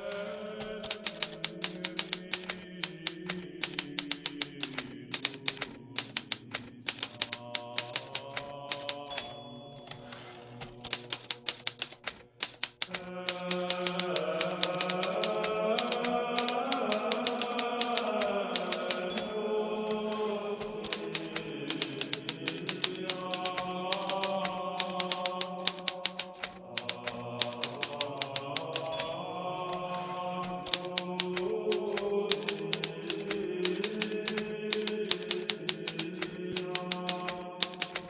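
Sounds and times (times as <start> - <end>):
typewriter keys striking: 0.1 - 38.0.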